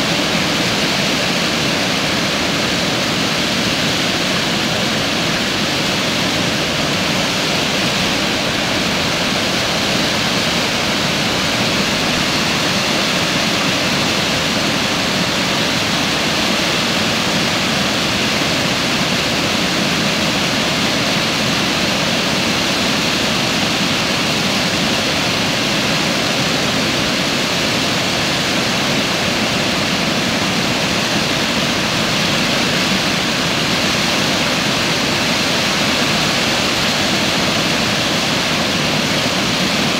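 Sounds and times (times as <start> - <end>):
water rushing over dam spillway: 0.0 - 39.9.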